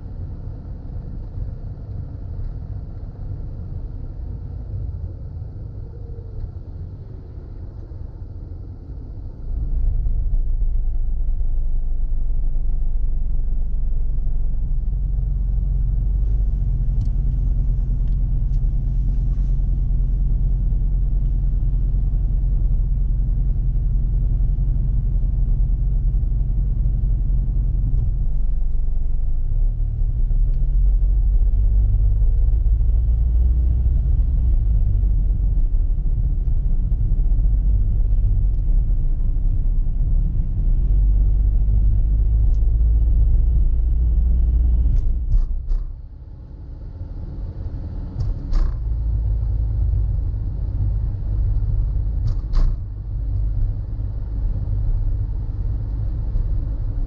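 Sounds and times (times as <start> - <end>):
car engine rumble: 0.0 - 57.0
road noise: 0.0 - 57.0.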